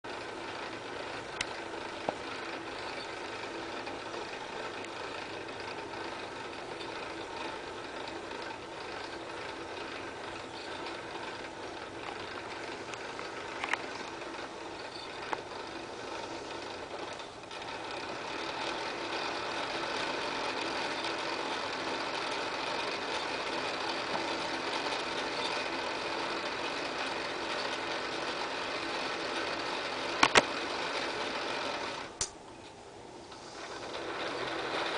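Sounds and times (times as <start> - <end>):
film projector whirring: 0.0 - 34.9
sharp projector clicks: 1.2 - 15.8, 16.5 - 32.4.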